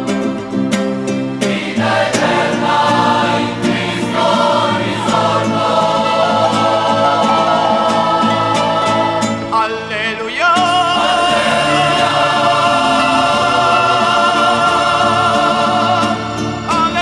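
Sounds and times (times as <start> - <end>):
choir singing: 0.0 - 17.0
instrumental accompaniment: 0.0 - 17.0.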